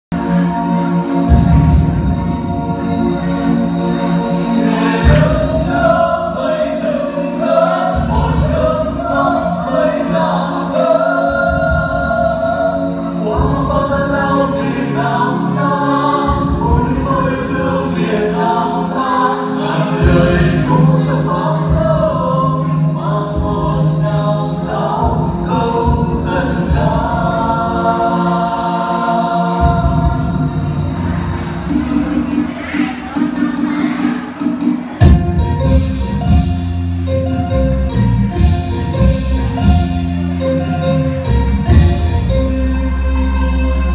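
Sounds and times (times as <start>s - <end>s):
choir singing: 0.2s - 36.8s.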